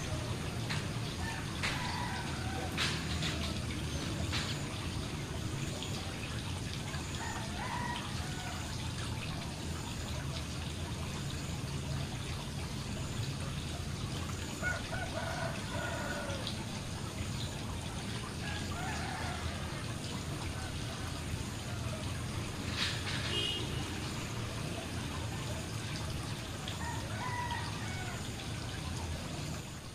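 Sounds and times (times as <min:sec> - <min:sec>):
fountain water splashing into pond: 0:00.0 - 0:29.9.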